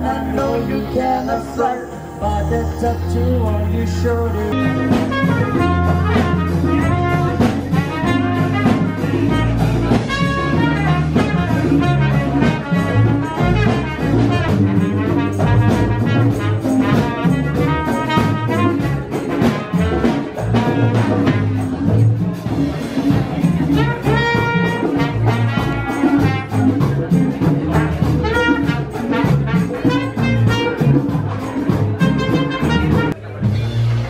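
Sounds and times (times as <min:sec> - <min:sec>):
trumpet melody: 0:00.0 - 0:33.7
drums: 0:00.0 - 0:34.0
live jazz band: 0:00.0 - 0:34.0.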